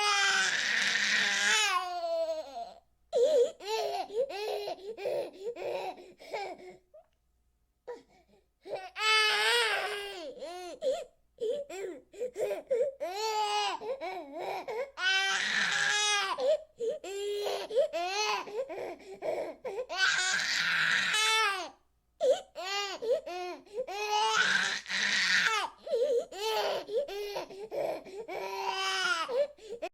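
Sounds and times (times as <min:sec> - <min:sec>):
infant crying: 0:00.0 - 0:06.8, 0:07.9 - 0:29.9.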